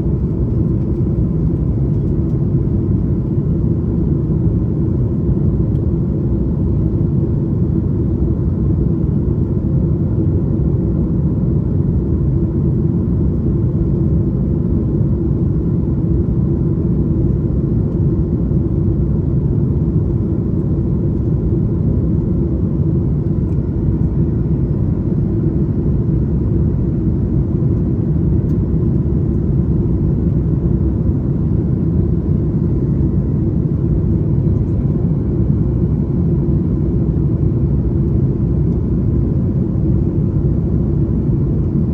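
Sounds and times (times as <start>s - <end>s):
aircraft engine rumble: 0.0s - 41.9s
faint hum: 0.0s - 41.9s.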